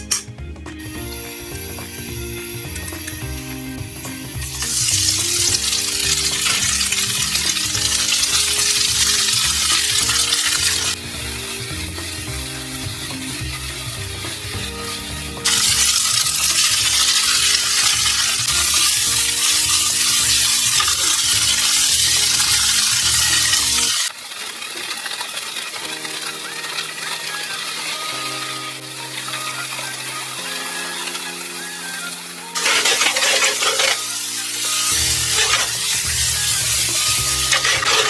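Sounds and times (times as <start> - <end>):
background music: 0.0 - 24.1, 25.9 - 38.0
tofu sizzling in oil: 0.9 - 38.0.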